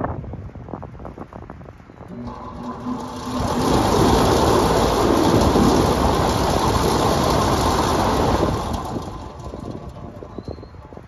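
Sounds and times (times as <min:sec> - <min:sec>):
fans rushing air: 0:01.8 - 0:11.0.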